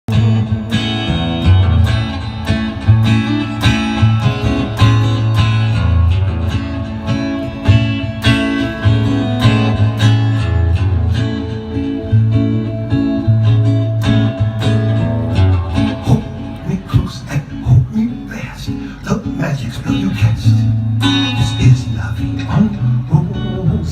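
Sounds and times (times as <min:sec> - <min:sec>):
bass line: 0:00.1 - 0:23.9
guitar plucked and strummed: 0:00.1 - 0:23.9.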